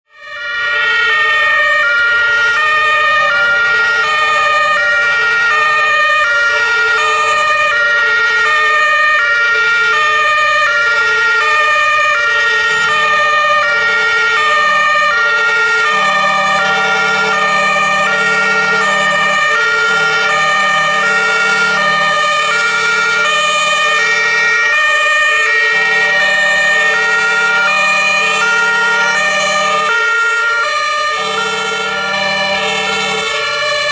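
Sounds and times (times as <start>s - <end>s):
two-tone fire engine sirens: 0.0s - 33.9s.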